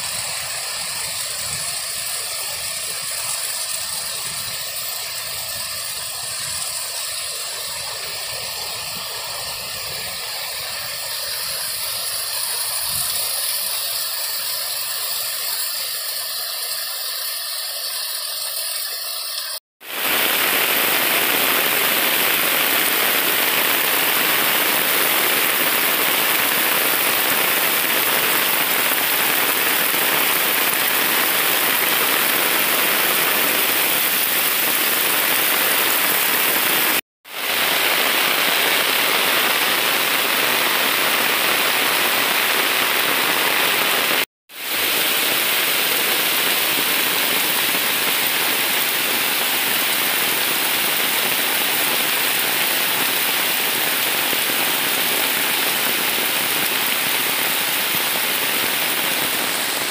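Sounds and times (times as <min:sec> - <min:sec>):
heavy rain pouring: 0:00.0 - 0:17.1, 0:19.8 - 0:59.9.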